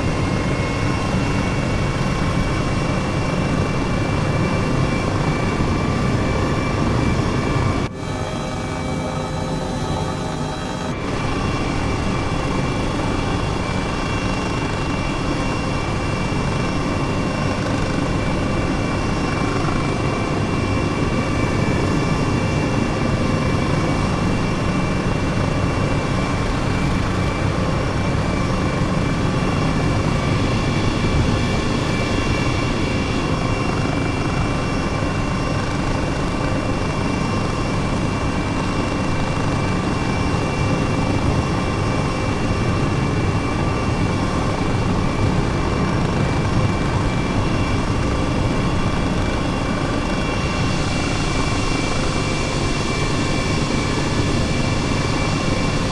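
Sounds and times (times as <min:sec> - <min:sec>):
helicopter rotor and turbine: 0:00.0 - 0:55.9.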